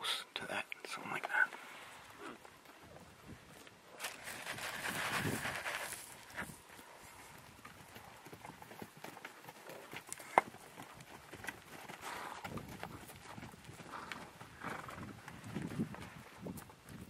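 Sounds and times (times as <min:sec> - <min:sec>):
hooves clopping on stony ground: 0:00.8 - 0:17.0.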